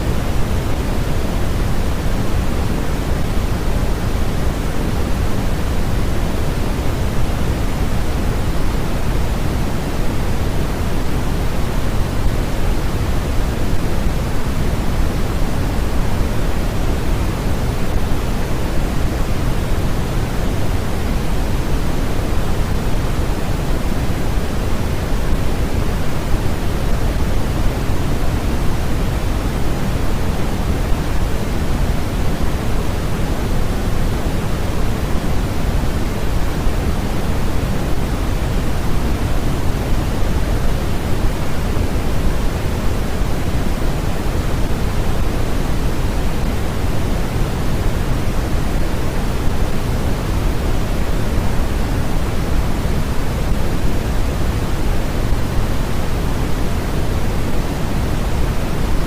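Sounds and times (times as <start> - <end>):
steady synthetic hiss: 0.0 - 59.0.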